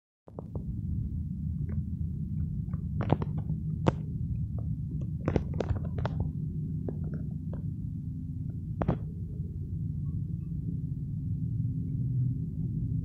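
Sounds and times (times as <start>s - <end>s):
low rumble and hum: 0.3s - 13.0s.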